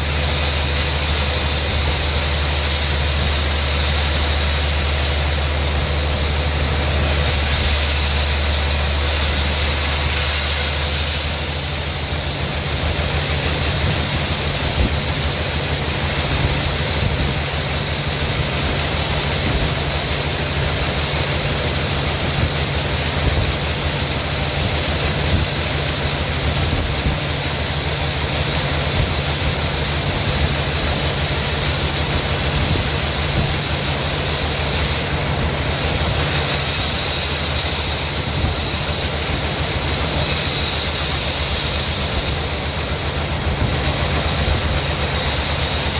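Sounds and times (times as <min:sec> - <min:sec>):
sawmill machinery whine and hum: 0:00.0 - 0:45.9.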